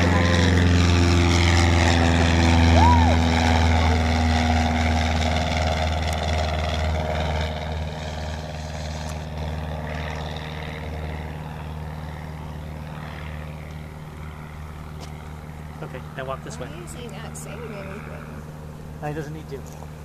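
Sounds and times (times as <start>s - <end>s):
small plane engine droning: 0.0s - 20.0s.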